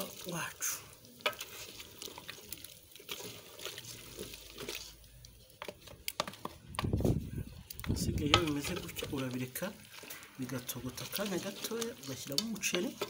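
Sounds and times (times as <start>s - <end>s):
thick puree pouring: 0.0s - 13.0s.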